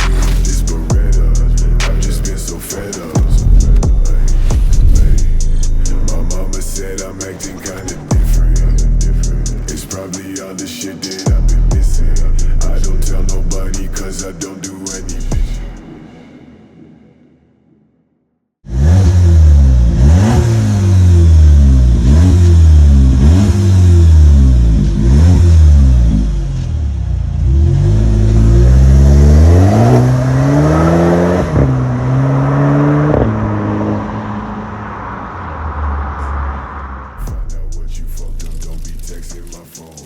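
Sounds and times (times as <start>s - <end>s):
car engine revving: 0.0s - 15.8s, 18.7s - 40.0s.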